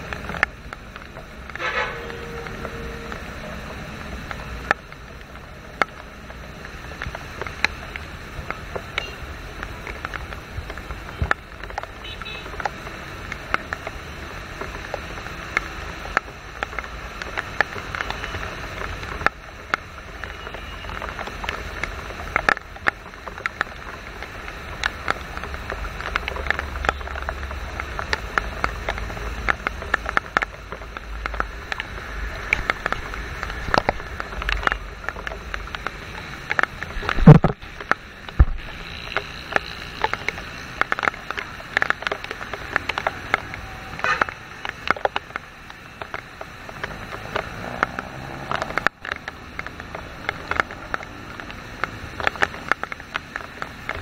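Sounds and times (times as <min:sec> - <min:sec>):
passing vehicle engines: 0:00.0 - 0:11.6, 0:12.8 - 0:54.0
raindrops ticking on microphone: 0:00.0 - 0:54.0
tyre hiss on wet road: 0:00.0 - 0:54.0.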